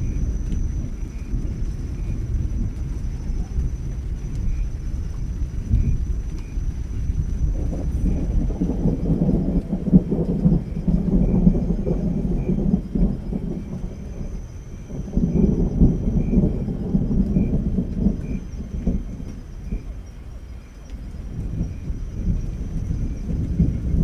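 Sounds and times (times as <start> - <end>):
steady rain: 0.0 - 24.0
thunder rumbling: 0.0 - 24.0.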